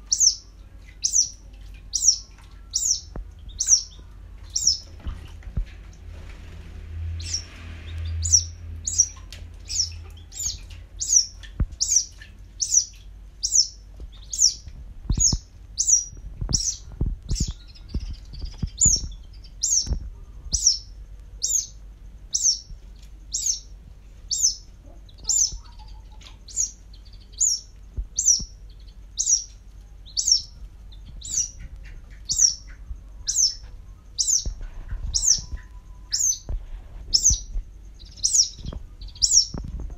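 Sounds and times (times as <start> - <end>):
young bird peeping: 0.0 - 5.3, 7.1 - 39.9.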